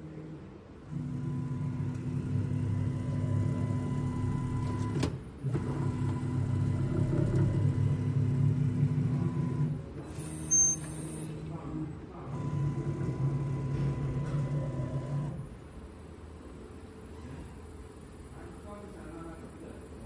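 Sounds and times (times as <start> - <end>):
mechanical motor hum: 0.0 - 16.2.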